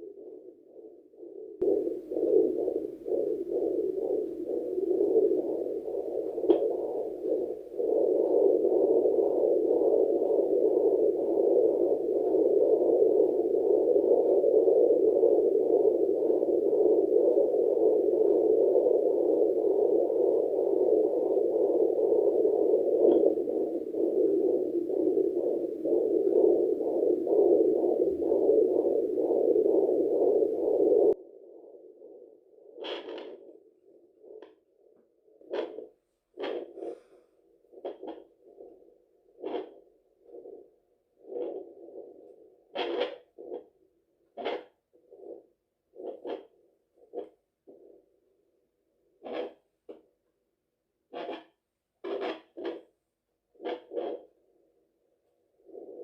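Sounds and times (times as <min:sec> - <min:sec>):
doppler heartbeat signal: 0:00.0 - 0:50.4, 0:51.0 - 0:56.0.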